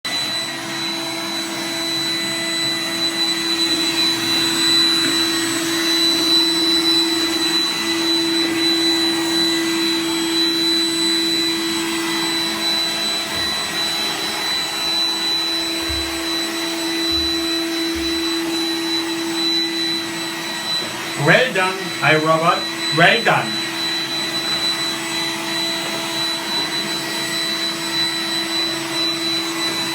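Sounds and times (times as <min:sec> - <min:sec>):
robot vacuum whirring: 0:00.1 - 0:29.9.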